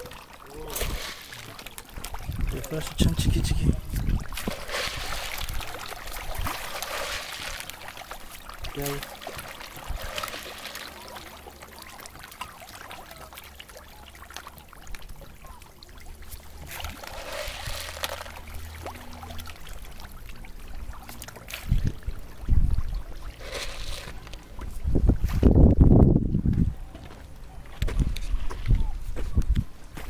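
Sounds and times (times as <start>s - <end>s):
water pouring and trickling: 0.0s - 26.6s.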